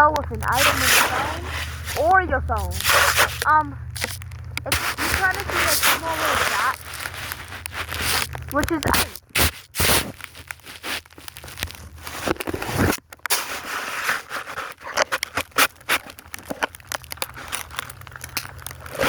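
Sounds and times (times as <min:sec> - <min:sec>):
snow and clothing rubbing phone: 0:00.0 - 0:16.7.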